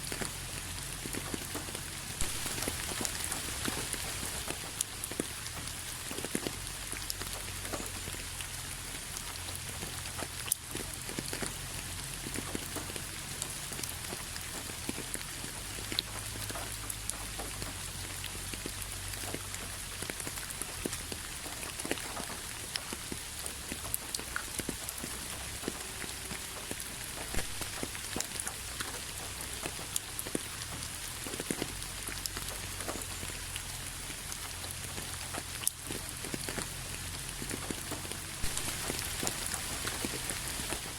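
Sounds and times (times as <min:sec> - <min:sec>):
raindrops ticking on a surface: 0:00.0 - 0:40.9
steady rain: 0:00.0 - 0:40.9.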